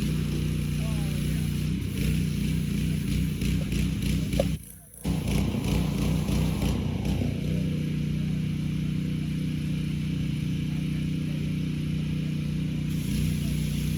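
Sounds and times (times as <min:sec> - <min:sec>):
broad rushing noise: 0:00.0 - 0:11.4
generator engine humming: 0:00.0 - 0:13.9.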